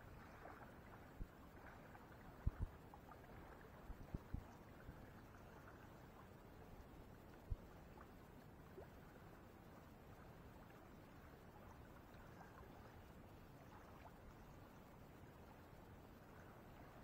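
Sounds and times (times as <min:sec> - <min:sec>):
faint open-air hiss: 0:00.0 - 0:17.0.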